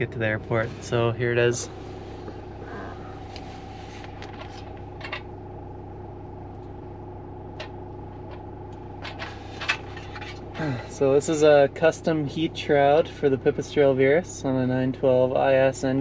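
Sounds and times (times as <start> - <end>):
car engine hum in cabin: 0.0 - 16.0.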